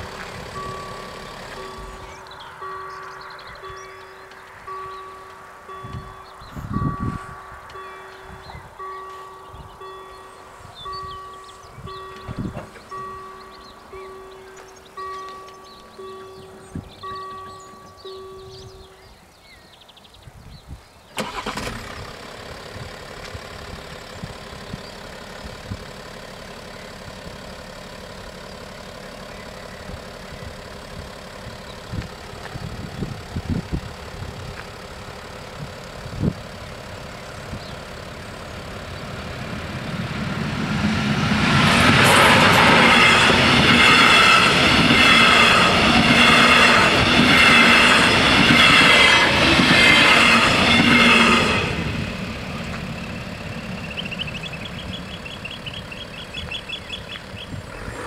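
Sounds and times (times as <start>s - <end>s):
train wheels rumbling on rails: 0.0s - 19.8s, 28.7s - 58.0s.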